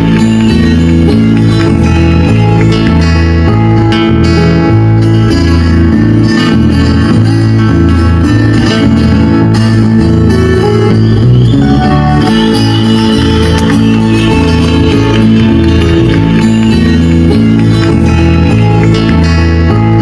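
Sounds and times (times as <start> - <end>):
background music with bass line: 0.0 - 20.0.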